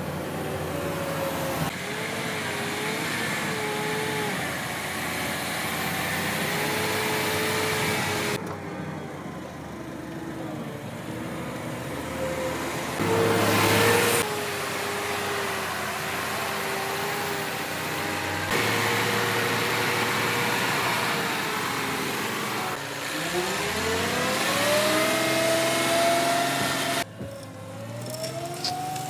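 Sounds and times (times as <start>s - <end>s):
digger engine running: 0.0s - 29.0s.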